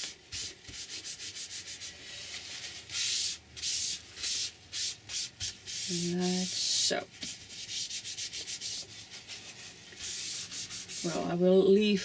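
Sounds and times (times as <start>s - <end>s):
hand rubbing over paper: 0.3s - 11.3s.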